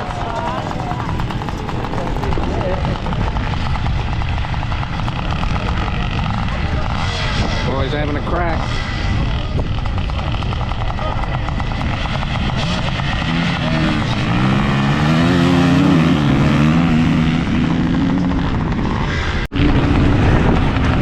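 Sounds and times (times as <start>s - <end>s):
motorcycle engines racing: 0.0s - 21.0s.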